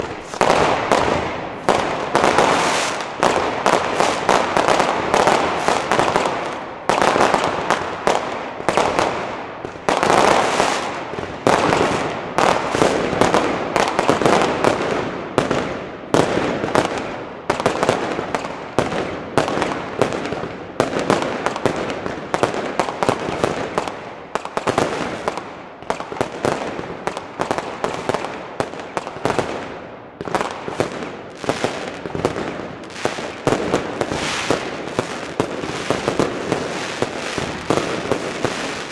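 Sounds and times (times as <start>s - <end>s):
fireworks banging: 0.0s - 29.6s, 30.2s - 38.9s.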